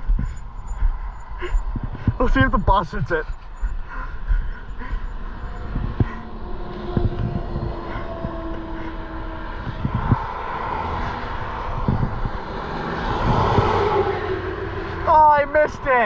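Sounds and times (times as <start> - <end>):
wind thumping on microphone: 0.0 - 15.0
road traffic engine hum: 0.0 - 16.0
vehicle approaching: 0.0 - 16.0.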